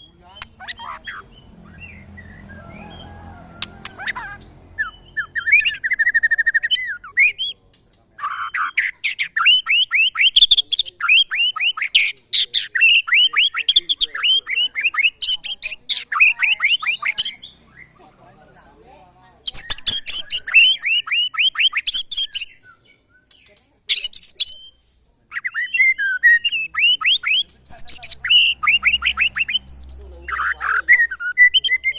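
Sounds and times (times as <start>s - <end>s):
songbird trilling and whistling: 0.0s - 7.6s, 8.2s - 18.0s, 19.4s - 31.9s.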